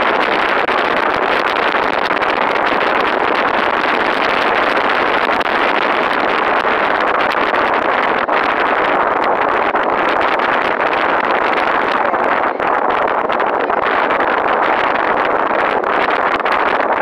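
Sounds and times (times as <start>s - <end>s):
wind rushing: 0.0s - 17.0s.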